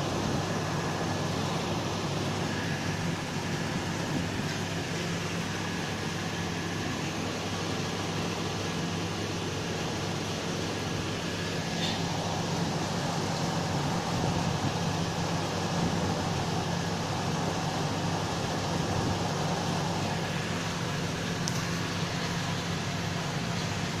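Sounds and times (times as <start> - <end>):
mechanical hum with hiss: 0.0 - 24.0.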